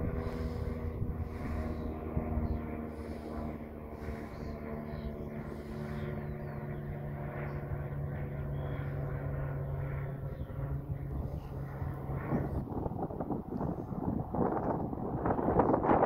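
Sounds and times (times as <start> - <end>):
propeller aircraft droning: 0.0 - 16.0.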